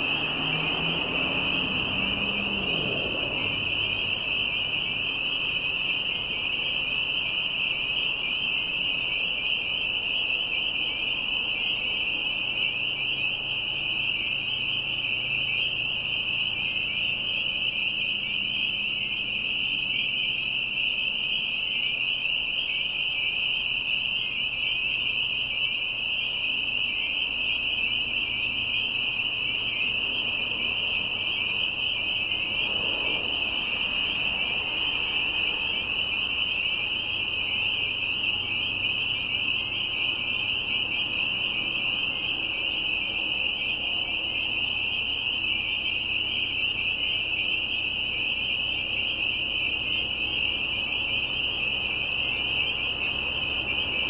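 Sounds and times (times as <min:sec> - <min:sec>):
frogs in shrill chorus: 0:00.0 - 0:54.0.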